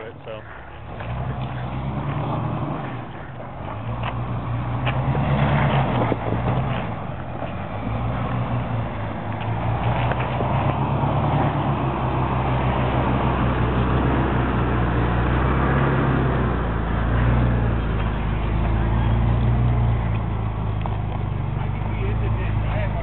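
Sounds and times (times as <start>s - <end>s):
car engine at low revs: 0.7s - 23.0s.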